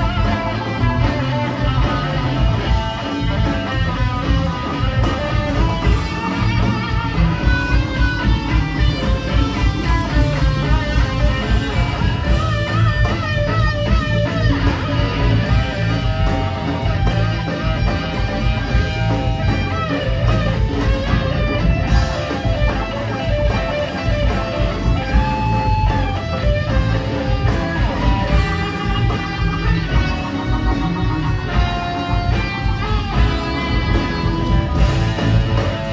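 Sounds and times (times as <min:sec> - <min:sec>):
electric guitar lead lines: 0:00.0 - 0:35.9
live rock band playing: 0:00.0 - 0:35.9.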